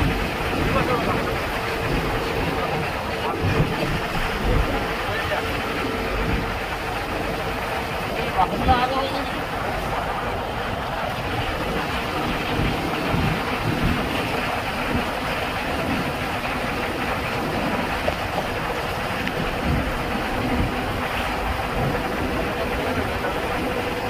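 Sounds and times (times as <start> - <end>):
vehicle road and wind noise: 0.0 - 24.0.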